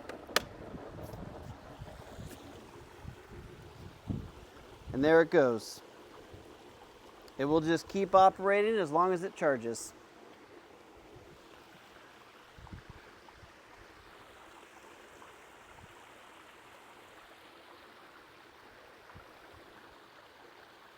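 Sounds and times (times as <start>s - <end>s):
pool water trickling: 0.0s - 20.9s.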